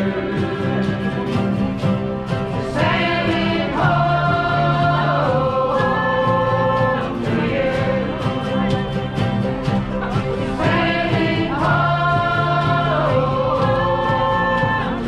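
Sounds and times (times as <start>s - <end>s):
group singing in chorus: 0.0s - 15.0s
strummed acoustic guitars: 0.0s - 15.0s.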